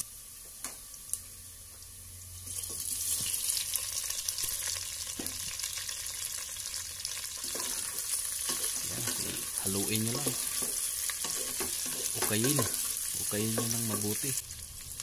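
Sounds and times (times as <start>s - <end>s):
oil sizzling in a pot: 0.0s - 15.0s
oil crackling and popping: 2.4s - 15.0s.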